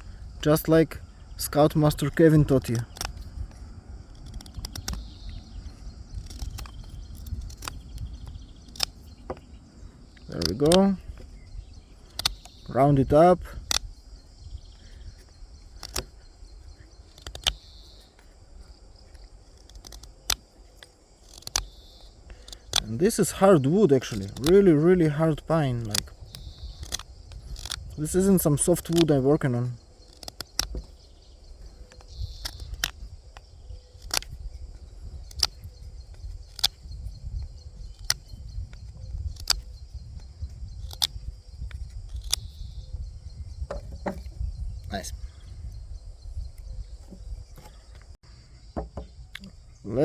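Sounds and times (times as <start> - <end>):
crickets chirping: 0.0 - 50.0
knife carving wood: 1.4 - 48.2.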